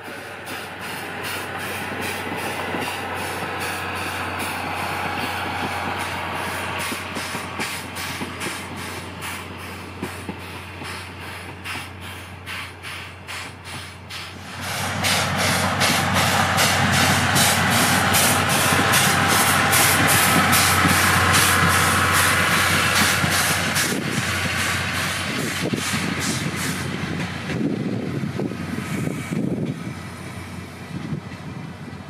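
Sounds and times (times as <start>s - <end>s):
steam locomotive chuffing: 0.0s - 32.0s.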